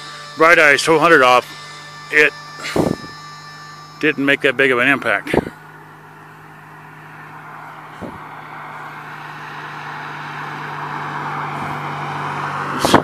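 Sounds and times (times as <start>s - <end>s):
steady low hum: 0.0s - 12.0s
car tyre and road noise: 0.0s - 13.0s.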